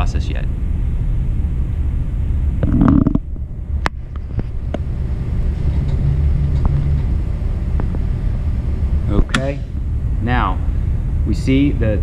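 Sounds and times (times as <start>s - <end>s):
printer fans humming: 0.0s - 12.0s.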